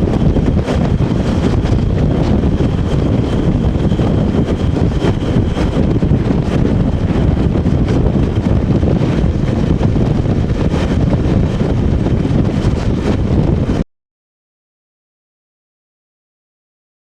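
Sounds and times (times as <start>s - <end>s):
train rumbling: 0.0s - 13.8s
wind buffeting microphone: 0.0s - 13.8s.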